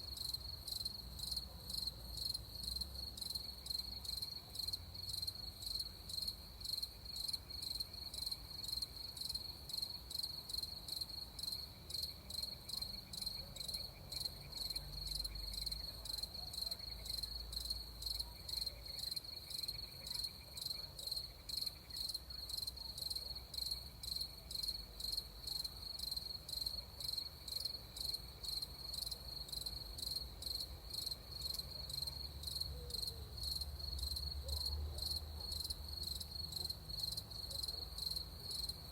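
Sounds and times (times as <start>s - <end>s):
crickets chirping: 0.1s - 38.9s.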